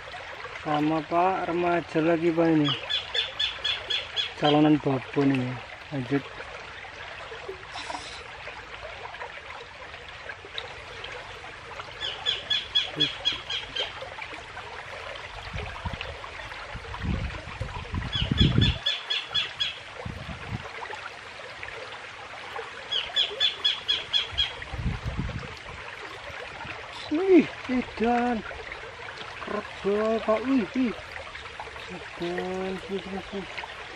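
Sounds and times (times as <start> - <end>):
stream rushing: 0.0 - 33.9.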